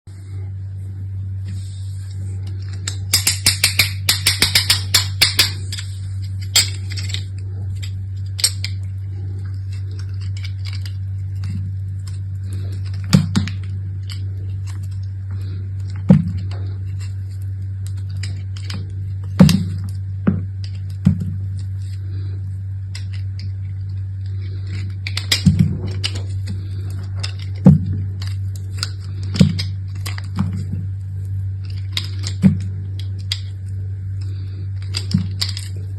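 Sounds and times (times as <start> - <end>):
steady low hum: 0.1 - 35.9.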